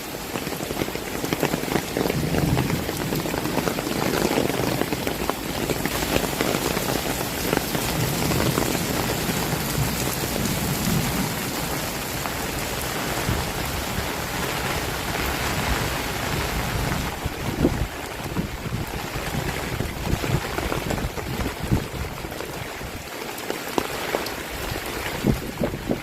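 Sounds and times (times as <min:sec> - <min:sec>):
heavy rain patter: 0:00.0 - 0:26.0.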